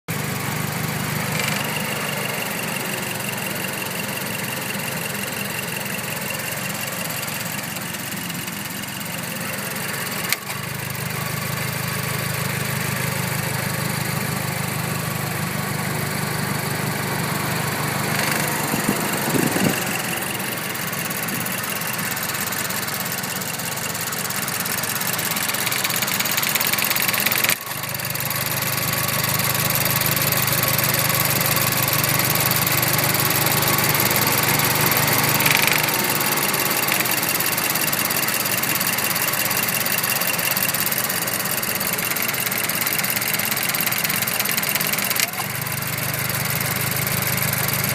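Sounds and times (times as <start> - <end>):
car engine idling: 0.1 - 47.9.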